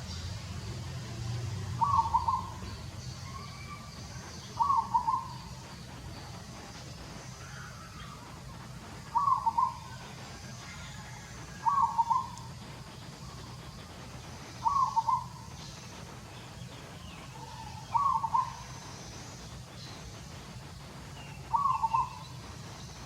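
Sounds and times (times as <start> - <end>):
bird calling: 1.8 - 20.5, 21.1 - 23.0.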